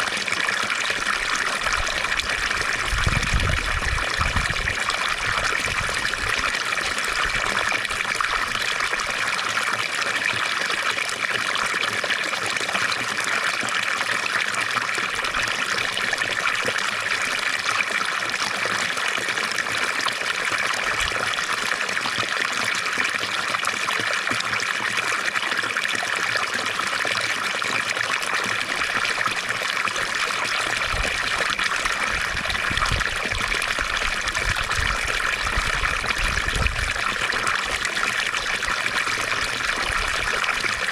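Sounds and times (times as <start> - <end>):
fountain water splashing: 0.0 - 40.9.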